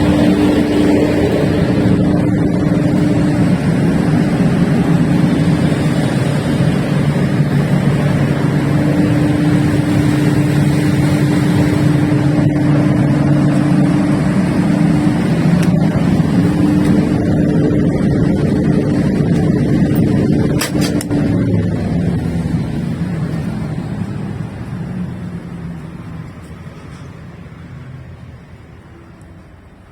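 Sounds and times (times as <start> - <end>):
diesel generator droning: 0.0 - 29.9.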